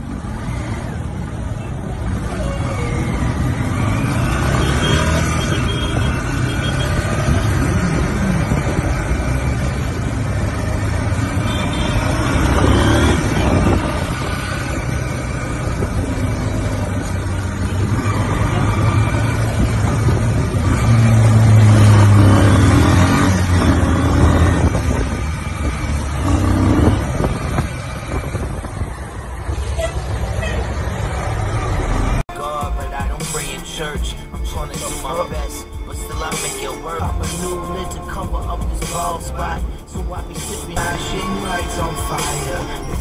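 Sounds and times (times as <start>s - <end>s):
tyre and road noise: 0.0s - 43.0s.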